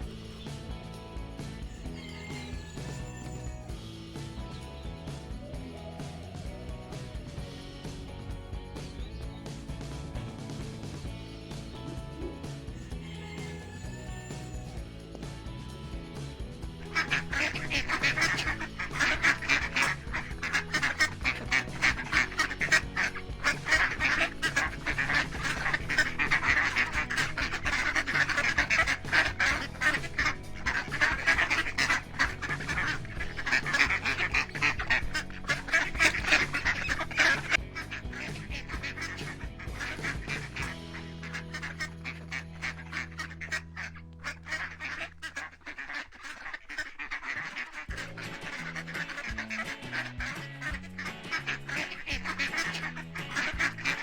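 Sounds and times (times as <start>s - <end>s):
ducks quacking: 0.0s - 54.0s.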